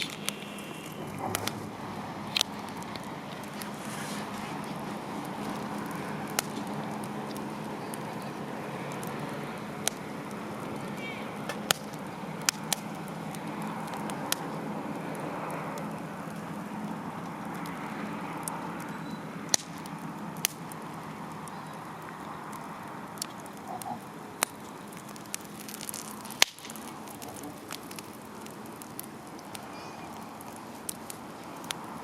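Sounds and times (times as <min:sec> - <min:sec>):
campfire hissing: 0:00.0 - 0:32.0
fire crackling and popping: 0:00.0 - 0:32.0.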